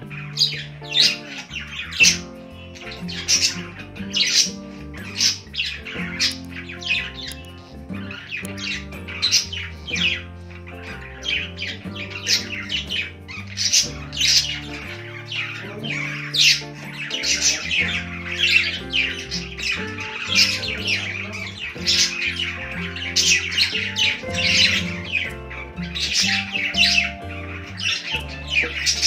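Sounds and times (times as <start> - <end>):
background music with low notes: 0.0 - 29.0
budgerigars chirping: 0.0 - 29.0.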